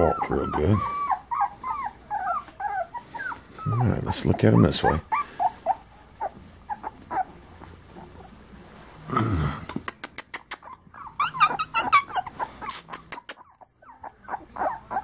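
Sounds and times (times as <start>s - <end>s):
puppies whimpering: 0.0s - 8.4s, 10.6s - 15.0s.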